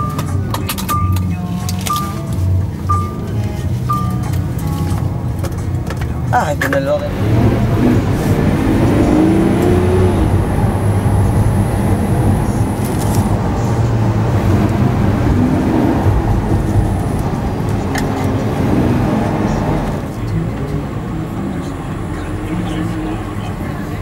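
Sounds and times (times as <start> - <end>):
car engine from inside cabin: 0.0 - 24.0.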